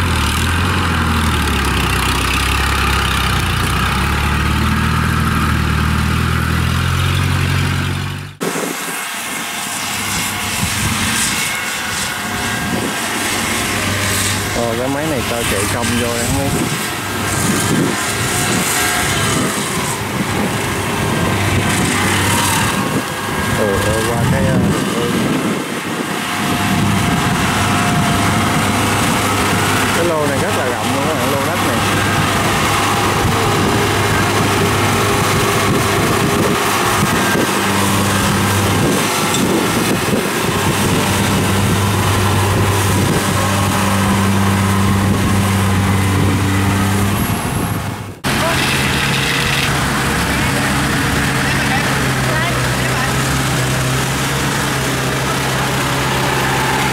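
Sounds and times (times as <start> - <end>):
combine harvester diesel engine drone: 0.0 - 56.9
cutter and threshing machinery rushing: 0.0 - 56.9.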